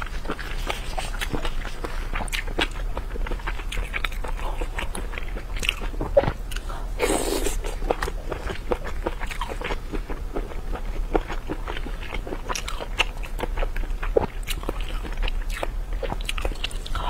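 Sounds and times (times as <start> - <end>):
biting and chewing: 0.0 - 17.0
mouth clicks and crunches: 0.0 - 17.0
steady low hum: 0.0 - 17.0.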